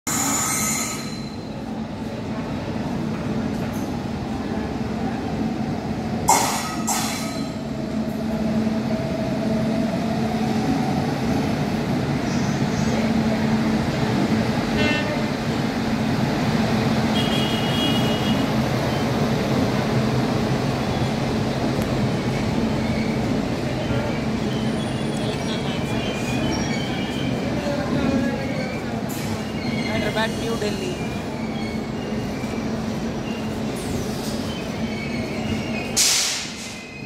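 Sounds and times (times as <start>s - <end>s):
train rolling rumble: 0.1s - 37.0s.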